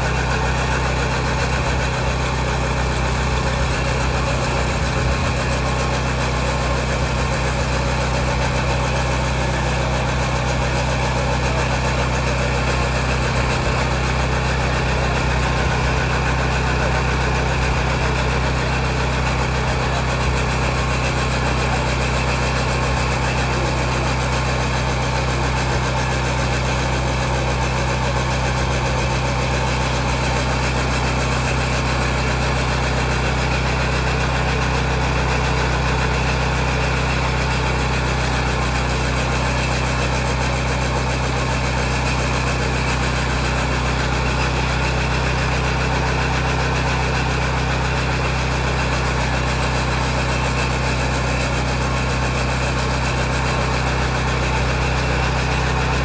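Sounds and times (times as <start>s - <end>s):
grinding wheel on rail: 0.0s - 56.0s
small petrol engine hum: 0.0s - 56.0s.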